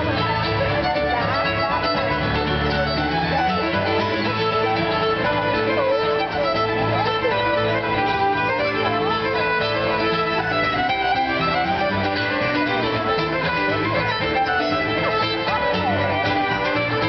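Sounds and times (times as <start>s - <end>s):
fiddle playing quick melody: 0.0s - 17.0s
stage piano chords: 0.0s - 17.0s.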